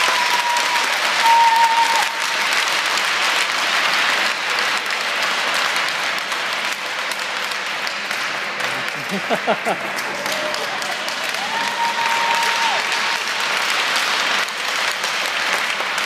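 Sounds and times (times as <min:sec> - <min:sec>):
spectators applauding: 0:00.0 - 0:16.0.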